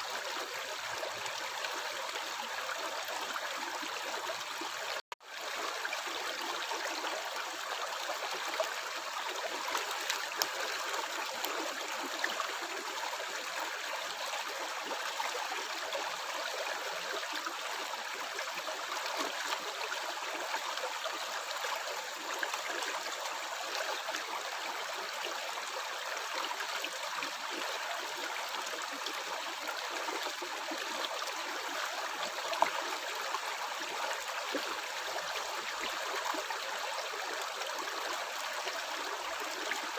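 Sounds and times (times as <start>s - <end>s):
water flowing and gurgling: 0.0s - 39.9s.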